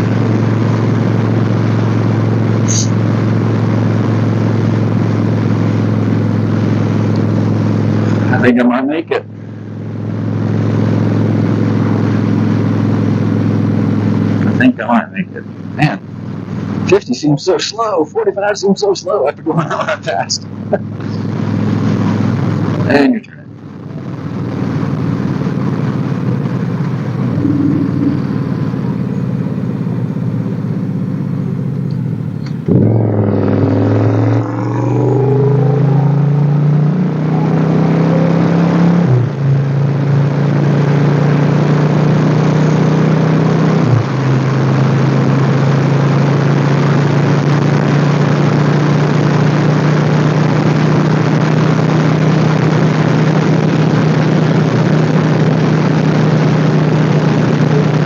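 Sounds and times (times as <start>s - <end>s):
motorcycle engine running: 0.0s - 8.5s, 9.2s - 14.7s, 15.3s - 17.0s, 23.5s - 58.0s.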